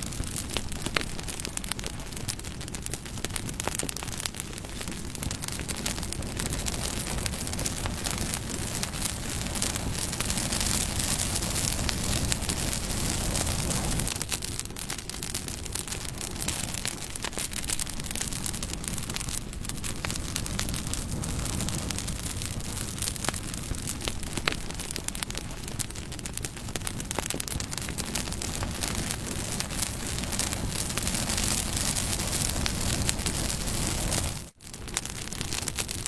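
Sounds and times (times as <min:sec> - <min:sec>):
burning wood crackling: 0:00.0 - 0:36.0
campfire flames hissing: 0:00.0 - 0:36.0.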